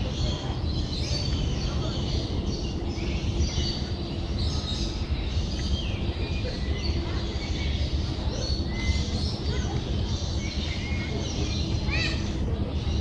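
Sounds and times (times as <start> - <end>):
birds chirping: 0.0 - 13.0
low background rumble: 0.0 - 13.0.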